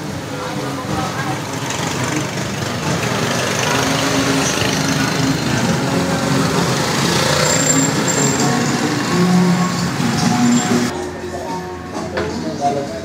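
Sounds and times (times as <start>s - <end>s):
motorbike engines running: 0.0s - 11.0s.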